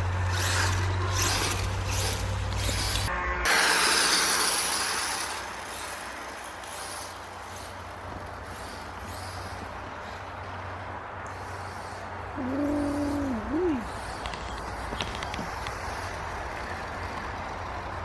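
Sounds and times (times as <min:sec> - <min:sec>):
electric toy dirt bike running: 0:00.0 - 0:18.0.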